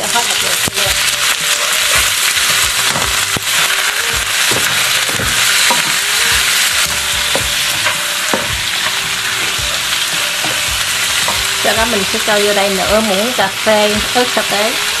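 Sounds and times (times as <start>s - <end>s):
food sizzling in hot oil: 0.0s - 15.0s
spatula scraping a wok: 0.3s - 12.4s.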